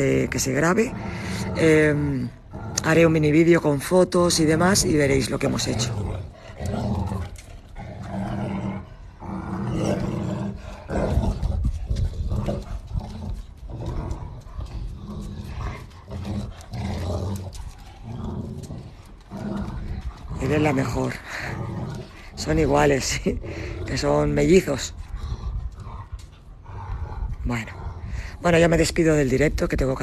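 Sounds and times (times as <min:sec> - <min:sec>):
dogs growling in play: 0:00.0 - 0:03.4, 0:04.6 - 0:28.5.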